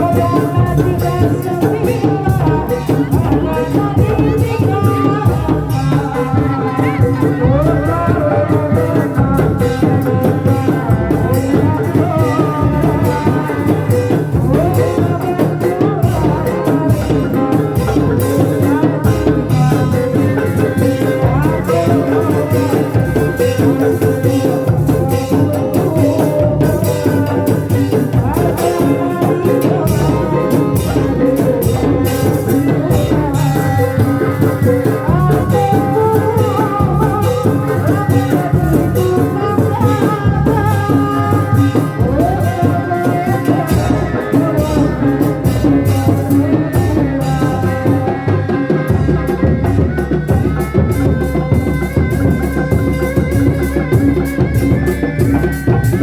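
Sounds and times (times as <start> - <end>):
fast drumming: 0.0 - 56.0
rattling percussion: 0.0 - 56.0
wavering bending melody: 0.0 - 56.0.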